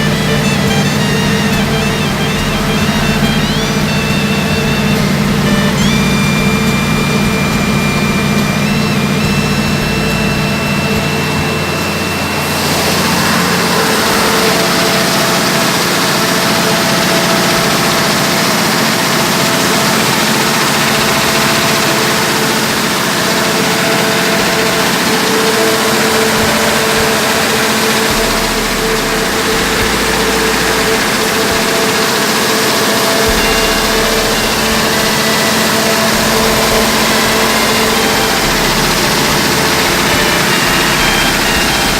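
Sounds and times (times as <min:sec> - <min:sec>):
constant tones: 0:00.0 - 0:41.9
diesel engine running: 0:00.0 - 0:41.9.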